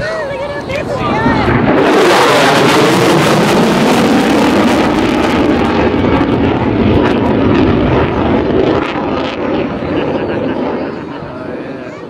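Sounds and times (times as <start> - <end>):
jet fighter roaring past: 0.0 - 12.0.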